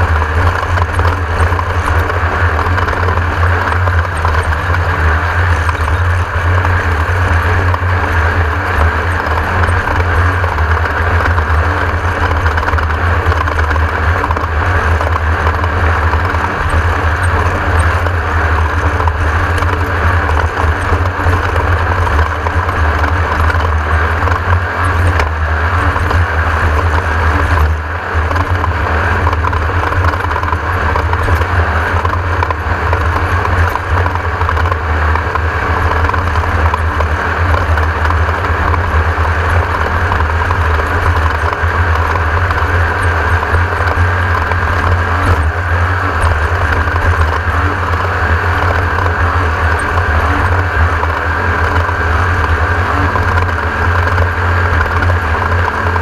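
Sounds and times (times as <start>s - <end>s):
drivetrain and terrain noise: 0.0s - 56.0s
race car engine drone: 0.0s - 56.0s.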